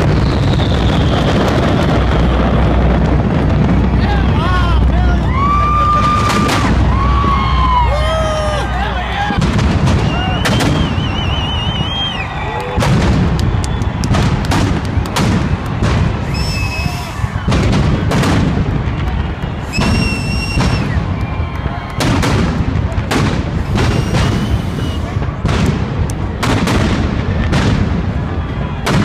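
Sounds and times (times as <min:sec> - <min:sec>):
high fireworks whistles: 0:00.0 - 0:25.8
continuous rumble: 0:00.0 - 0:29.0
fireworks booms and bangs: 0:00.0 - 0:29.0.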